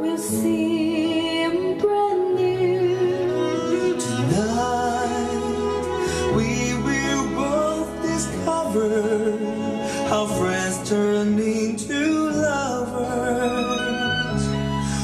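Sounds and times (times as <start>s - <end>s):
song with sung vocal: 0.0s - 15.0s.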